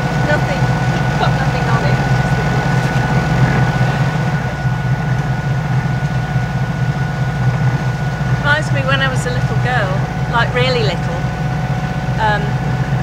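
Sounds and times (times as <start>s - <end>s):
diesel engine humming: 0.0s - 13.0s
thin steady whine: 0.0s - 13.0s.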